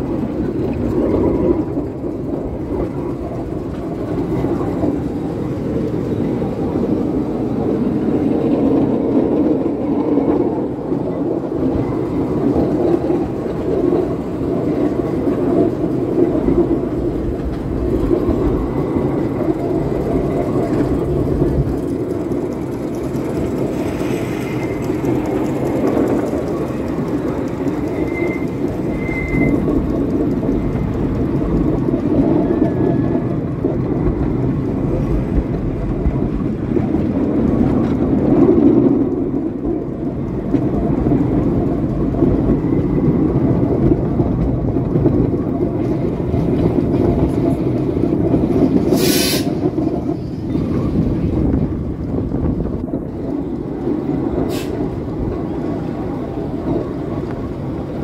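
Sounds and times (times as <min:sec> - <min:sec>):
miniature train wheels rumbling on rail: 0:00.0 - 0:58.0.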